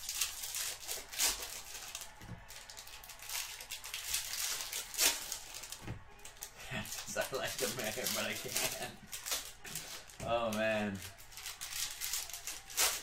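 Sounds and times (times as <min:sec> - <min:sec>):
card wrappers rustling and crinkling: 0:00.0 - 0:13.0.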